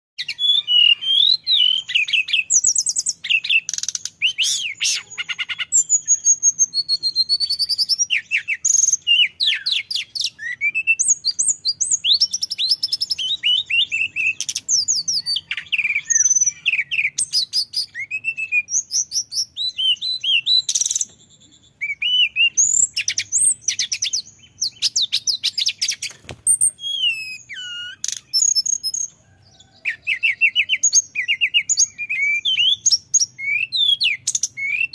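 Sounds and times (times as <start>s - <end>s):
bird singing whistled trills: 0.2s - 34.9s.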